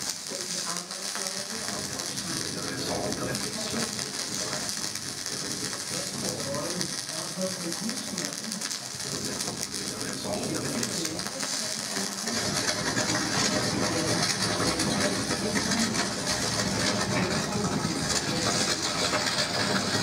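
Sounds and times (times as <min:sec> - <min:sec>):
electronic crackling clicks: 0:00.0 - 0:20.0
processed voice fragments: 0:00.2 - 0:20.0.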